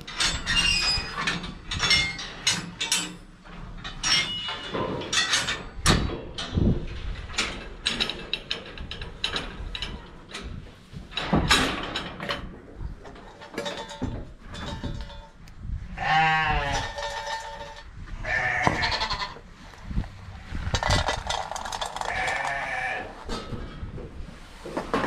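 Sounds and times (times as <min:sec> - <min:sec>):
sharp knocks and rattles: 0:00.0 - 0:25.0.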